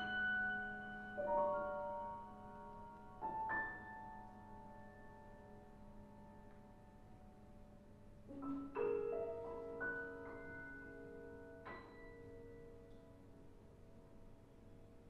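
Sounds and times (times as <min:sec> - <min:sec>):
grand piano played softly: 0:00.0 - 0:15.0.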